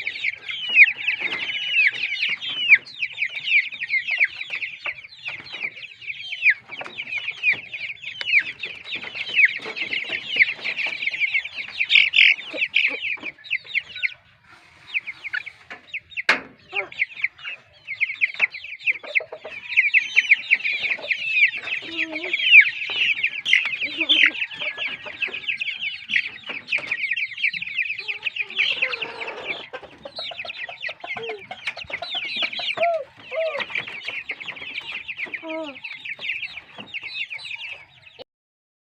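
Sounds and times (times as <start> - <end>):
chorus of high peeping: 0.0 - 38.2
chickens clucking: 0.0 - 38.3.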